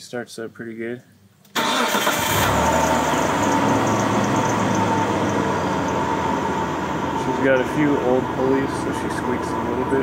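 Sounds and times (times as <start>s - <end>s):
car engine starting and idling: 1.5s - 10.0s.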